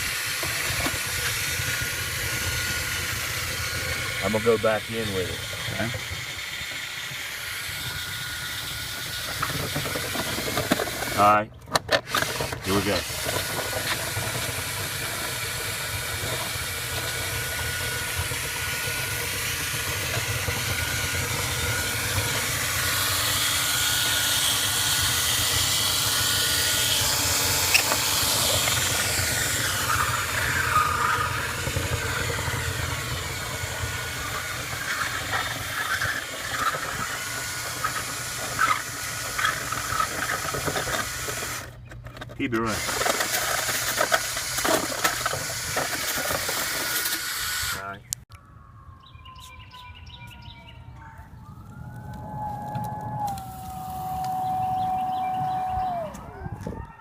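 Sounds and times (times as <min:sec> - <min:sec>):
high whine shifting in pitch: 0:00.0 - 0:11.4, 0:12.7 - 0:41.6, 0:47.7 - 0:57.0
vent cleaning motor running: 0:00.0 - 0:11.4, 0:12.1 - 0:41.8, 0:51.7 - 0:56.3.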